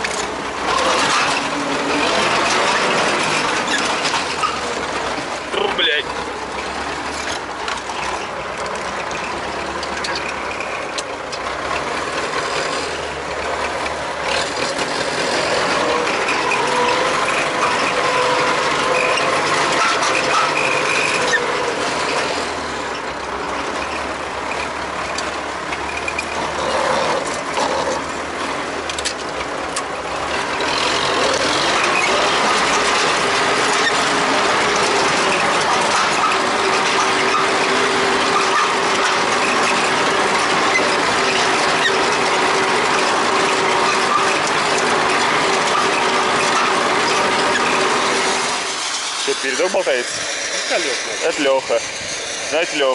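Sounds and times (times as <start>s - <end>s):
tractor engine clattering: 0.0s - 52.9s.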